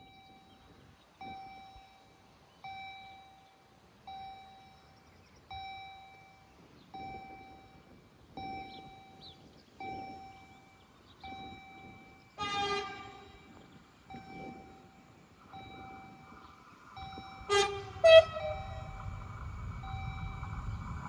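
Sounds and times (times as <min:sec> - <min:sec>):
level-crossing warning bell ringing: 0:00.0 - 0:21.0.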